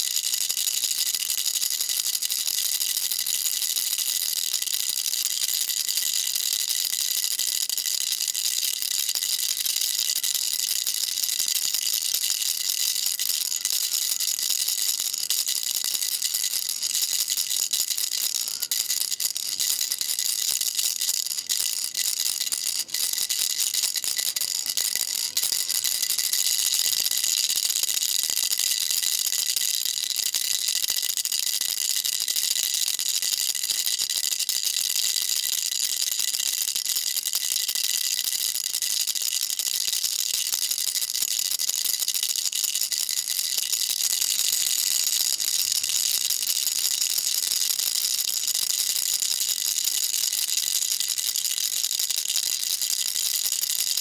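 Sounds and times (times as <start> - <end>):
baby rattle shaking: 0.1 - 34.0, 36.0 - 54.0.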